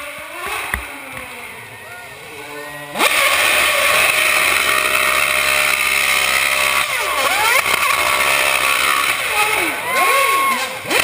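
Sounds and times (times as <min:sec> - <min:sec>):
racing car engine high revs: 0:00.0 - 0:11.0.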